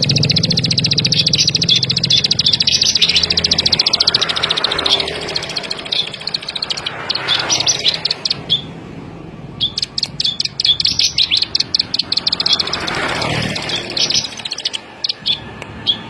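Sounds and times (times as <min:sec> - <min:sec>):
bird singing high ticking notes: 0:00.0 - 0:08.8, 0:09.4 - 0:16.0.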